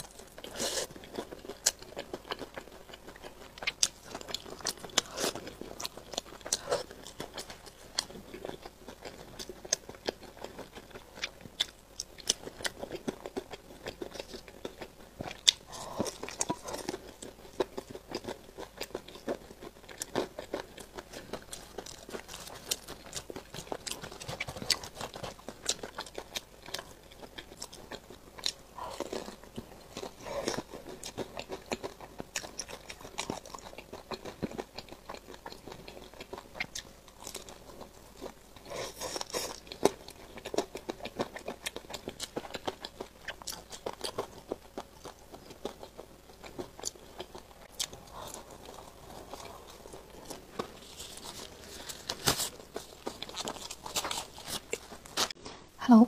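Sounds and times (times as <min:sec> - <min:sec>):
person chewing crispy chicken: 0:00.0 - 0:55.5.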